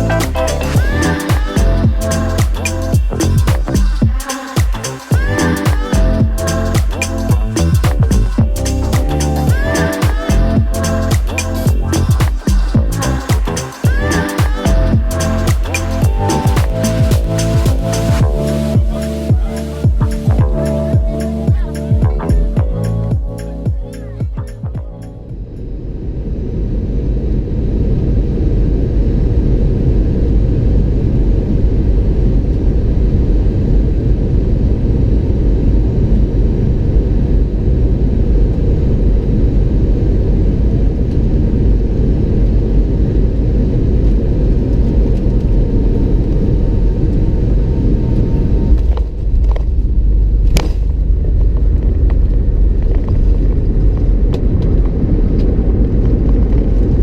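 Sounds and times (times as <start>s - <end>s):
airplane cabin rumble: 5.1s - 57.0s.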